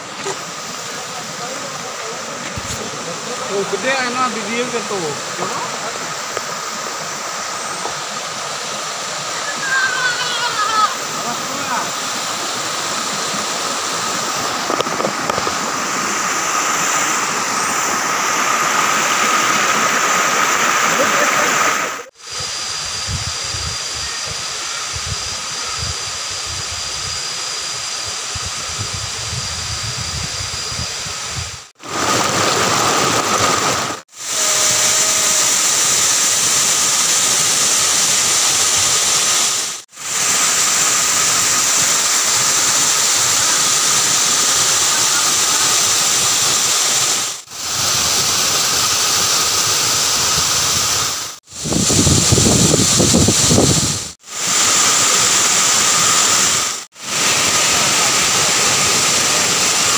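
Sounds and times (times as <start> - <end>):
water rushing over rocks: 0.0 - 22.4, 31.8 - 59.9.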